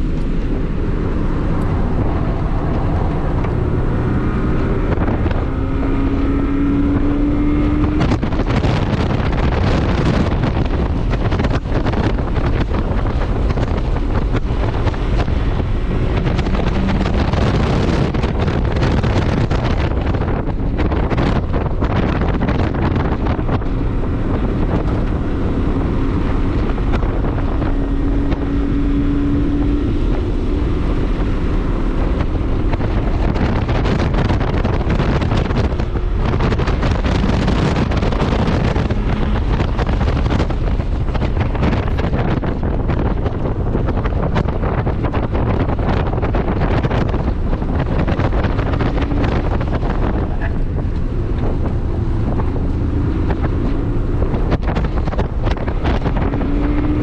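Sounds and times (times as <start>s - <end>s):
car engine running: 0.0s - 57.0s
wind buffeting microphone: 0.0s - 57.0s.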